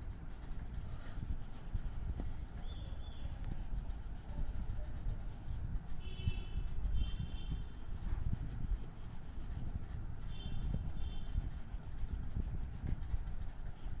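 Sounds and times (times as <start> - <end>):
scratchy rubbing on paper: 0.0 - 14.0.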